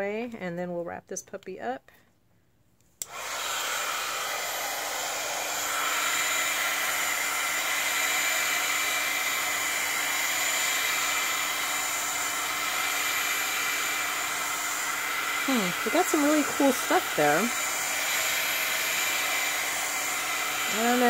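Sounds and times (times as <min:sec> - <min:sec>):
heat gun whirring: 0:03.0 - 0:21.0.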